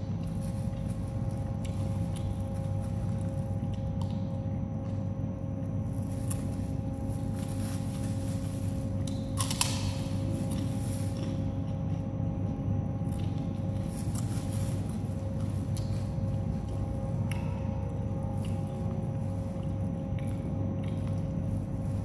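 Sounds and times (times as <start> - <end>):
low hum: 0.0 - 22.0
person eating with crunches: 0.0 - 22.0.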